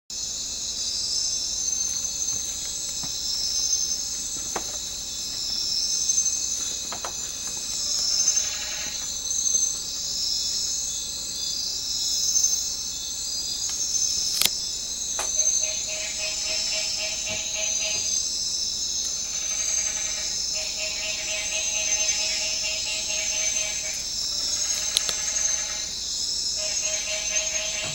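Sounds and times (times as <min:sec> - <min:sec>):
shrill insect chorus: 0:00.2 - 0:27.9.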